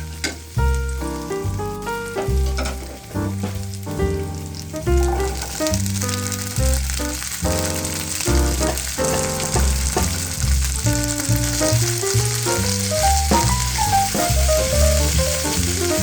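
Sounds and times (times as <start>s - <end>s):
background music: 0.0s - 16.0s
food sizzling in oil: 0.0s - 16.0s.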